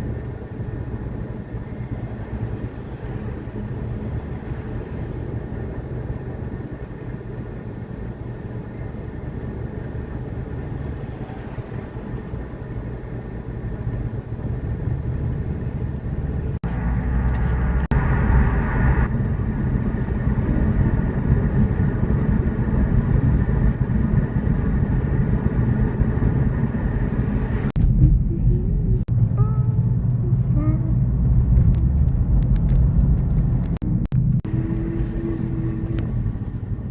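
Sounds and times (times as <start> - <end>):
vehicle rumble: 0.0 - 36.9.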